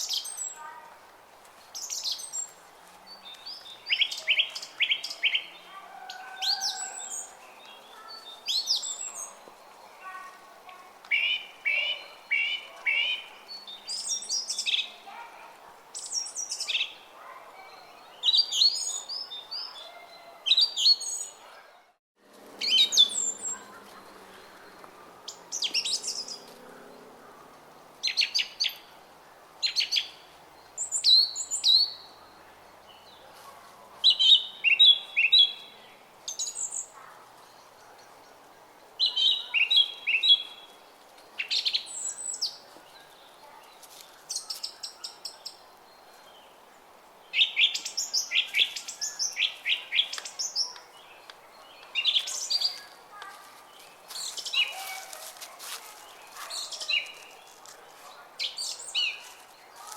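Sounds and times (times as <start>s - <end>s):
songbirds singing: 0.0s - 1.0s, 1.6s - 21.7s, 22.5s - 59.9s.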